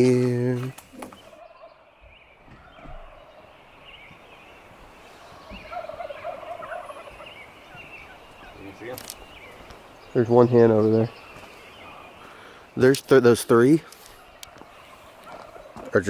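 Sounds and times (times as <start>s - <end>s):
turkeys gobbling: 0.2s - 12.9s, 13.5s - 16.0s.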